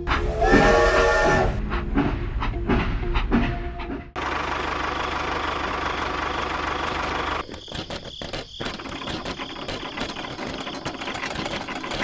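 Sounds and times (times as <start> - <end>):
tractor engine running: 1.5 - 12.0.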